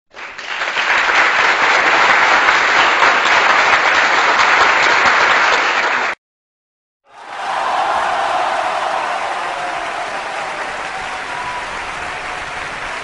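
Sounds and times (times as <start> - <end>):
crowd applause: 0.1 - 6.2, 7.1 - 13.0.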